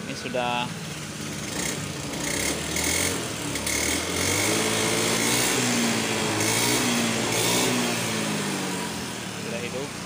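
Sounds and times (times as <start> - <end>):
scooter engine running: 0.0 - 10.0.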